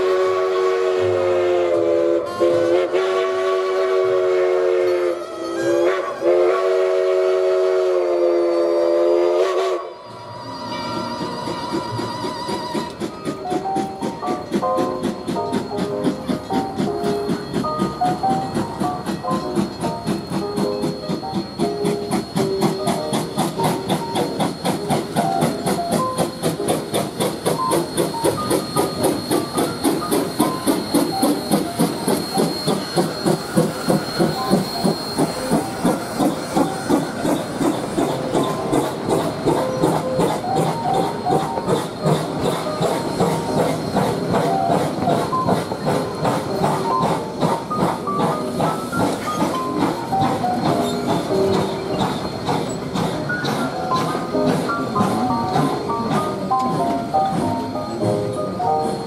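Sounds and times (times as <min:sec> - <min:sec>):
steam hiss: 0:00.0 - 0:59.0
steam locomotive chuffing: 0:00.0 - 0:59.0.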